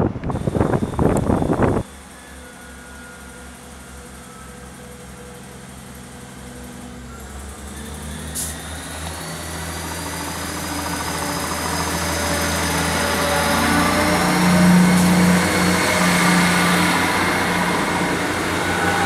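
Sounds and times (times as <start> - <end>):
diesel train engines running: 0.0 - 19.0
wheel and rail noise: 0.0 - 19.0.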